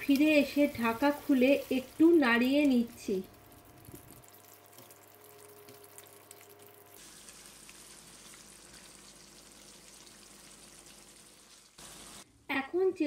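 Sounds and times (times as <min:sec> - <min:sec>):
curry sizzling and simmering: 0:00.0 - 0:12.3.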